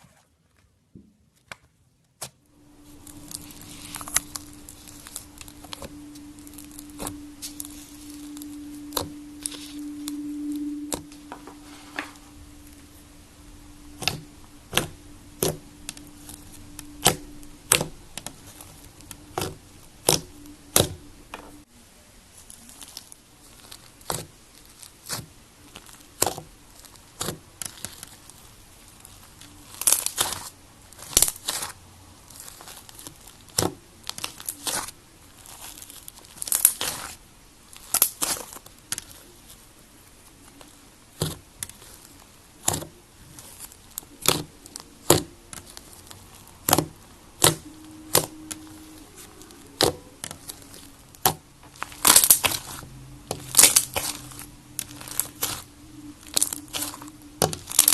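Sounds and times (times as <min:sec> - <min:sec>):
faint low hum: 0:00.0 - 0:57.9
slime popping and crackling: 0:02.7 - 0:09.9, 0:13.9 - 0:21.6, 0:22.6 - 0:39.2, 0:40.5 - 0:57.9.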